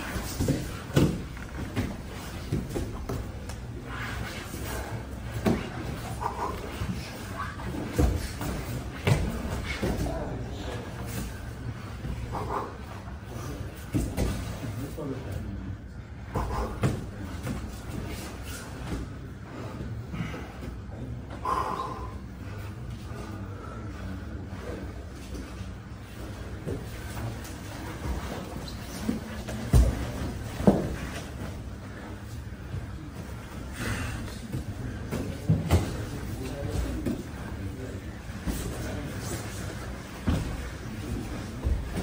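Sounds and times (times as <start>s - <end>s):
people breathing: 0.0s - 42.0s.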